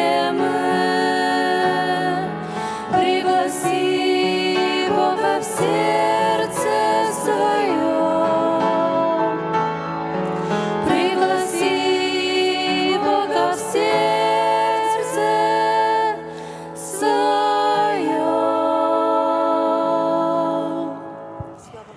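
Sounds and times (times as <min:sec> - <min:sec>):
vocal group singing in harmony: 0:00.0 - 0:21.9.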